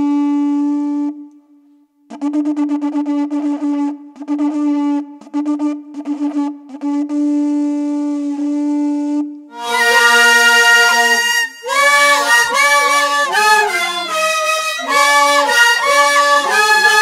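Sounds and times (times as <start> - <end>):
wooden duct flutes playing: 0.0 - 17.0.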